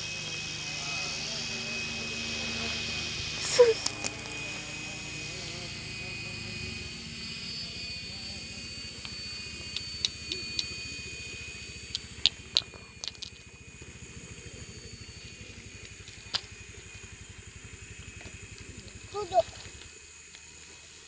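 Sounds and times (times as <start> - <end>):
rc helicopter rotor whirring: 0.0 - 21.0.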